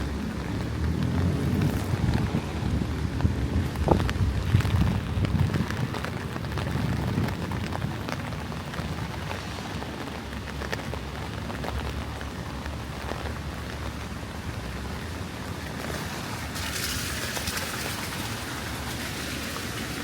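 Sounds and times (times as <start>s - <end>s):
raindrops ticking: 0.0s - 20.0s
steady rain falling: 0.0s - 20.0s.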